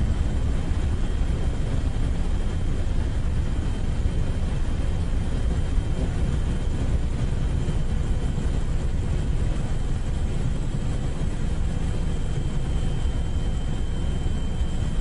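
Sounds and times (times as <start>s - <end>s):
aircraft rumble: 0.0s - 15.0s
faint high whine: 0.0s - 15.0s.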